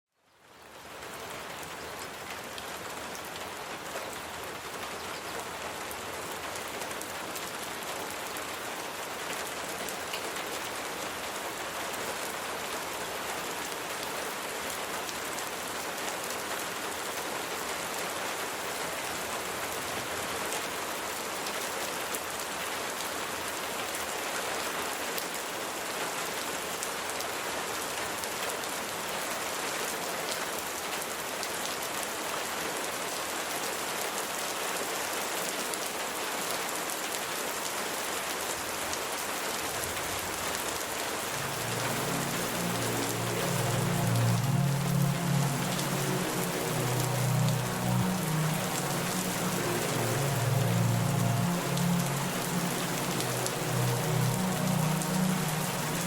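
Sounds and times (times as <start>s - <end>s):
steady rain falling: 0.1s - 56.0s.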